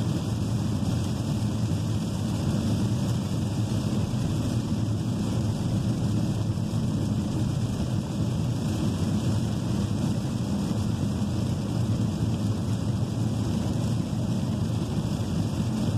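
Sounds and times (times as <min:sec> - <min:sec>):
car interior rumble: 0:00.0 - 0:15.9
rain on car body: 0:00.0 - 0:15.9
tyres on wet road: 0:00.0 - 0:15.9.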